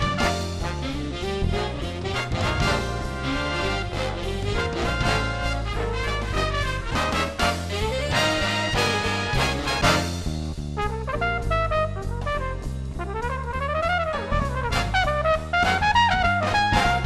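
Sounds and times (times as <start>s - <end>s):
drums: 0.0s - 17.0s
jazz music with brass: 0.0s - 17.0s.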